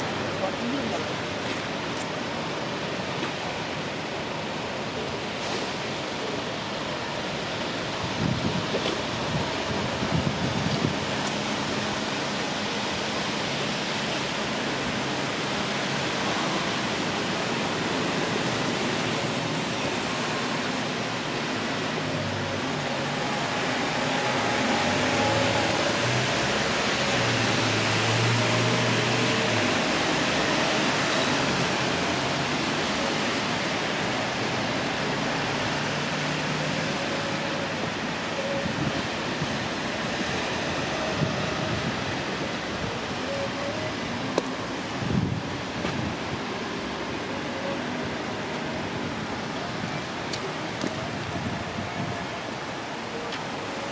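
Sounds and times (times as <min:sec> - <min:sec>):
passing traffic hum: 0:00.0 - 0:53.9
rain falling on street: 0:00.0 - 0:53.9.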